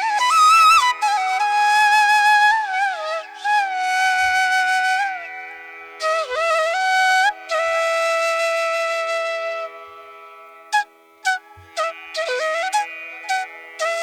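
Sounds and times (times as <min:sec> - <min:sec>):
flute playing held notes: 0:00.0 - 0:05.2, 0:06.0 - 0:10.0, 0:10.8 - 0:14.0.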